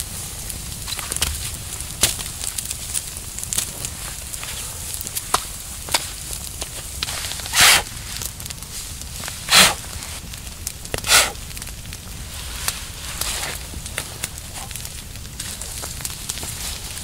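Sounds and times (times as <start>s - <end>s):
campfire crackling and popping: 0.0s - 17.0s
crunching rustles in dry leaves: 0.0s - 17.0s.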